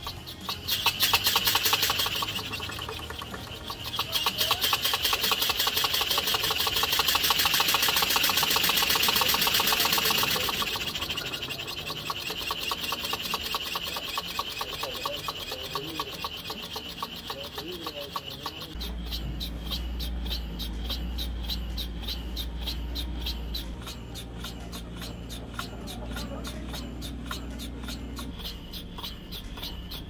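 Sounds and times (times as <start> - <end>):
steam engine running: 0.0 - 30.0
valve gear clatter: 0.0 - 30.0.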